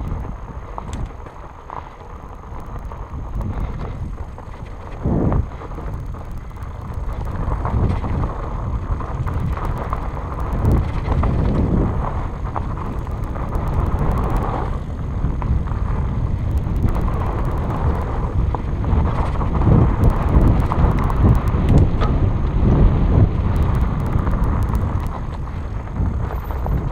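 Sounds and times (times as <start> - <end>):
wind on microphone: 0.0 - 1.2, 2.3 - 26.9
bike clicks and rattles: 0.0 - 26.9
fat tyres rolling over dirt: 0.0 - 26.9.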